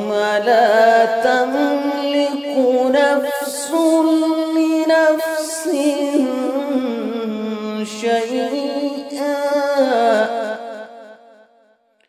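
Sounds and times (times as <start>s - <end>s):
man chanting recitation: 0.0s - 10.7s.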